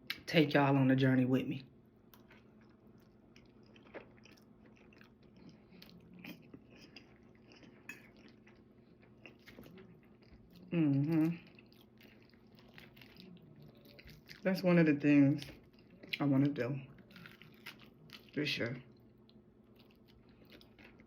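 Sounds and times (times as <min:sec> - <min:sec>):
person chewing food: 0:02.1 - 0:14.5, 0:15.4 - 0:21.0.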